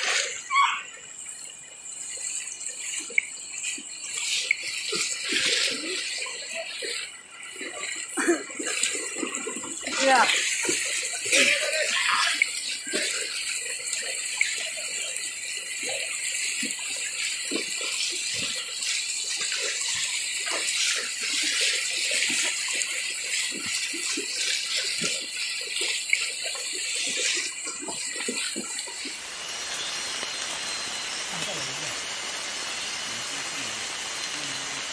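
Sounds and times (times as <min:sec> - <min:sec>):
people wading splashing: 0:03.0 - 0:18.6, 0:19.2 - 0:34.9
stream water rushing: 0:03.5 - 0:34.9.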